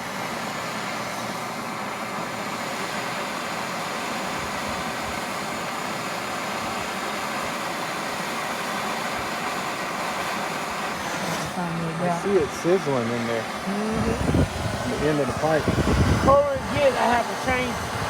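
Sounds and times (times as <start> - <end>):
propane torch flame hissing: 0.0 - 18.0.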